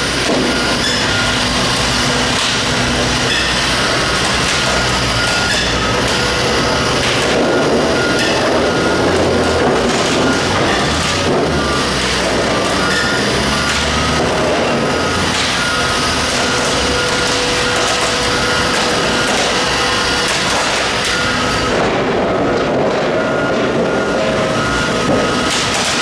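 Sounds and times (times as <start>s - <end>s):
loud engine drone: 0.0s - 26.0s
travel alarm beeping: 0.0s - 26.0s
track plates clattering: 0.1s - 26.0s.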